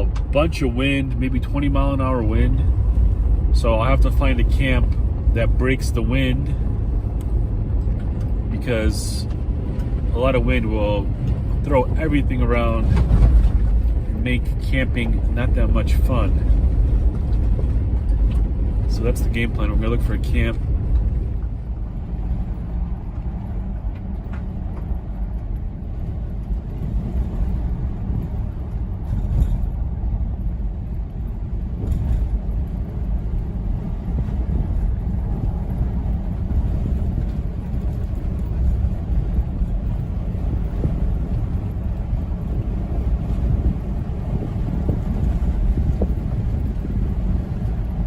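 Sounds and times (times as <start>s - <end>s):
engine and road noise: 0.0s - 48.0s.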